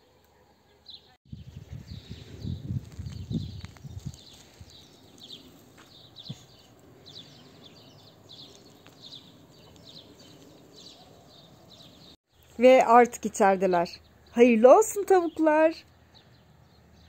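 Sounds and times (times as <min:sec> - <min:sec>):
bird chirping: 0:00.6 - 0:17.0.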